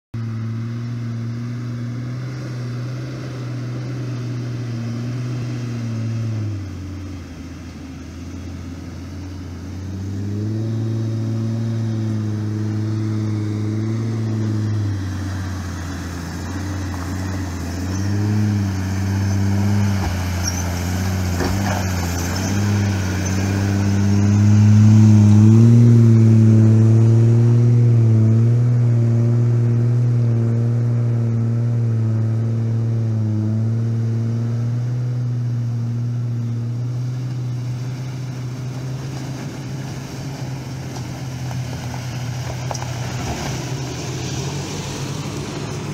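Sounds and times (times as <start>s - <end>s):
vehicle engine labouring: 0.2s - 45.9s.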